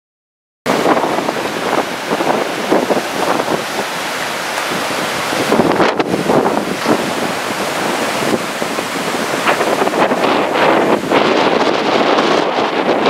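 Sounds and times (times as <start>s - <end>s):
strong wind: 0.7s - 13.0s
surf washing onto beach: 0.7s - 13.0s.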